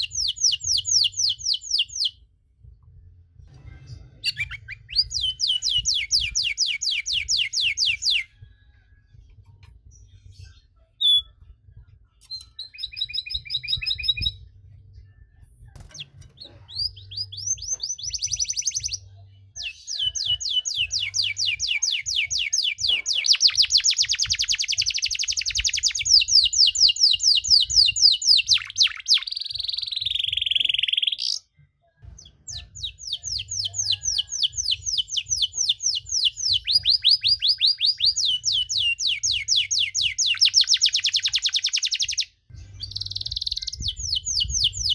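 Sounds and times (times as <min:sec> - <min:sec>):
canary singing trills: 0:00.0 - 0:02.2, 0:04.2 - 0:08.3, 0:10.9 - 0:11.4, 0:12.2 - 0:14.4, 0:15.8 - 0:44.9.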